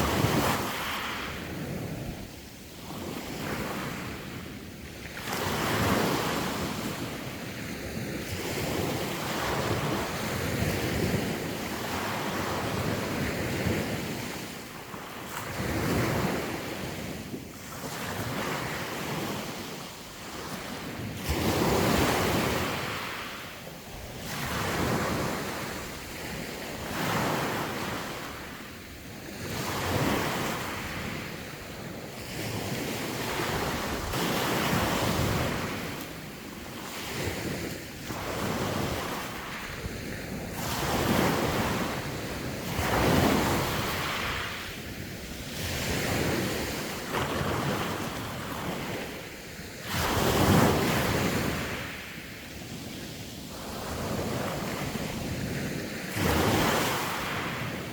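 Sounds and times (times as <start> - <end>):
sea waves washing onto shore: 0.0 - 57.9
wind on the microphone: 0.0 - 57.9.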